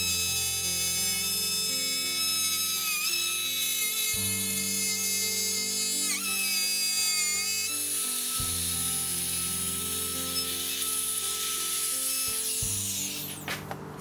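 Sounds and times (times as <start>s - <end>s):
trim router whining cutting wood: 0.0s - 13.9s.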